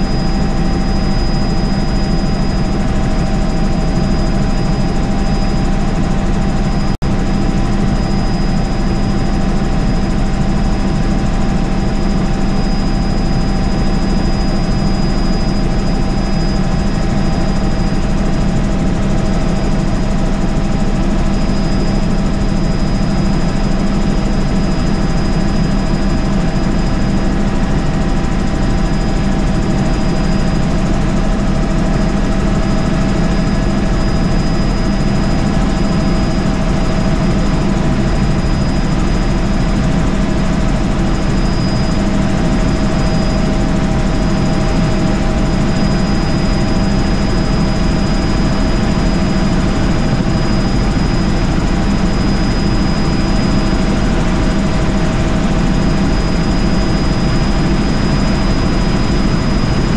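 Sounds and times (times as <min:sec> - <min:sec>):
helicopter engine and rotor noise: 0:00.0 - 0:59.9
high whine: 0:00.0 - 0:59.9.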